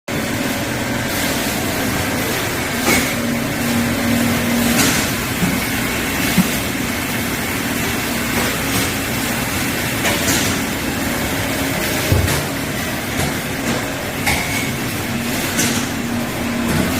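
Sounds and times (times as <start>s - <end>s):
weighing machine running: 0.1s - 16.9s.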